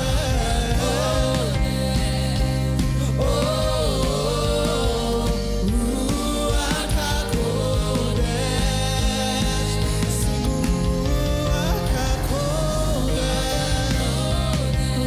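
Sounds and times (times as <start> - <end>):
band accompaniment: 0.0 - 15.0
person singing: 0.0 - 15.0.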